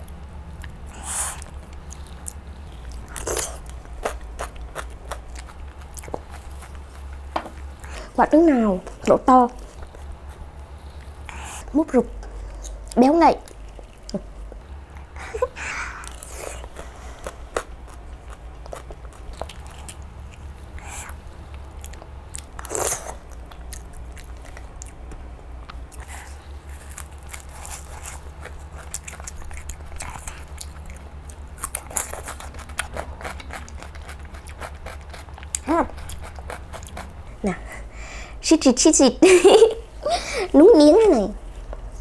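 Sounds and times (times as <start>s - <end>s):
close-miked chewing: 0.0s - 38.4s
steady low hum: 0.0s - 42.0s.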